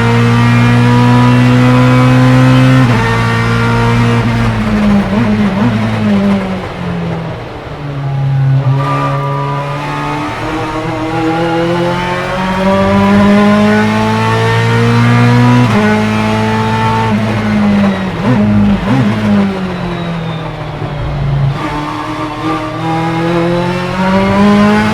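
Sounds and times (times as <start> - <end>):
race car engine accelerating: 0.0 - 24.9.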